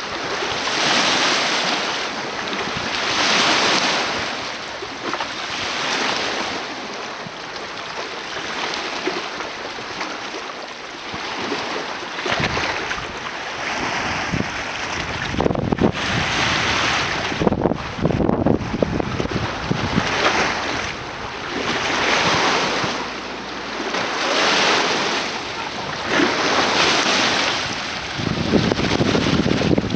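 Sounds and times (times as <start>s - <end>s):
wind buffeting microphone: 0.0s - 7.6s, 11.1s - 29.9s
lake waves washing on shore: 0.0s - 29.9s.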